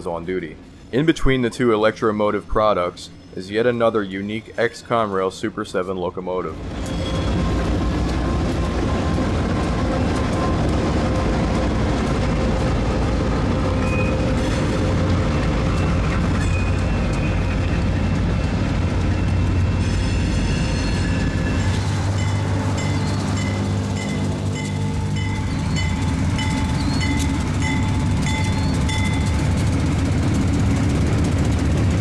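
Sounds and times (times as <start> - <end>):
freight locomotives rumbling past: 0.0 - 32.0
steady locomotive tones: 0.0 - 32.0.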